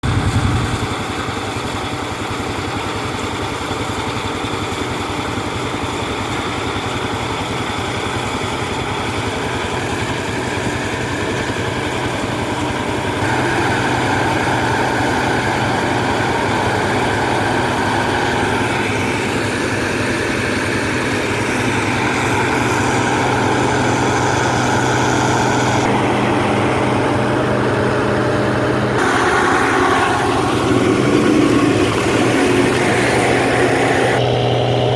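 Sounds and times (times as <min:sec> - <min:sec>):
harvesting machine engine droning: 0:00.0 - 0:34.9.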